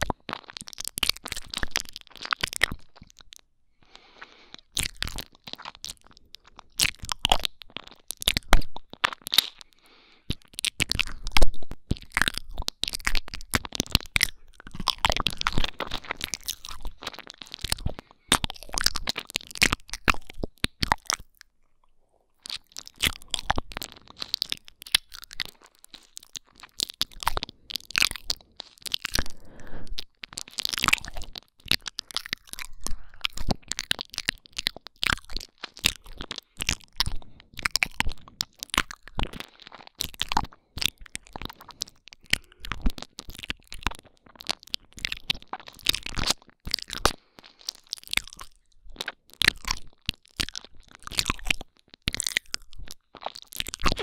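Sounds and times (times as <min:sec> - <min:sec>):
tongue clicks and mouth smacks: 0:00.0 - 0:54.0.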